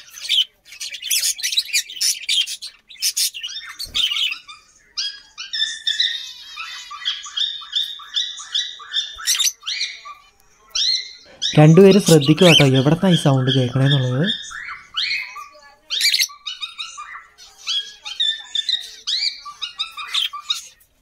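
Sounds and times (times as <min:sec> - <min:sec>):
cockatiel chirps and squawks: 0:00.0 - 0:11.5, 0:13.9 - 0:20.9.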